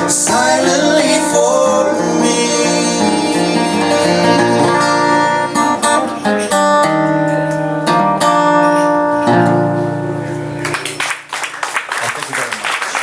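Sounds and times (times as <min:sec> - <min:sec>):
acoustic guitar playing: 0:00.0 - 0:11.3.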